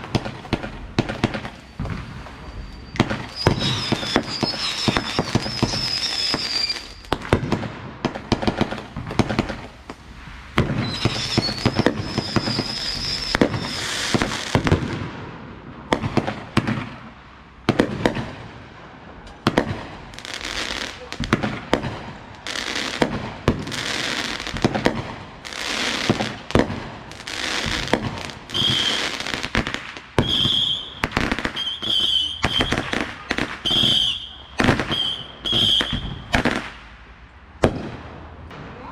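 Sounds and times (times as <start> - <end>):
high firework whistles: 0.0 - 7.6, 8.3 - 15.0, 19.5 - 36.9
fireworks shots and bangs: 0.0 - 37.0, 37.6 - 38.9.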